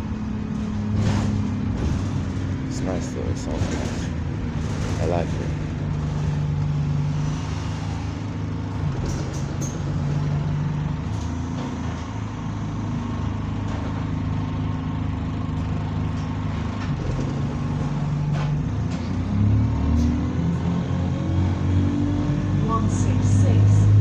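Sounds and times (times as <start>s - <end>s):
bus diesel engine humming: 0.0s - 24.0s.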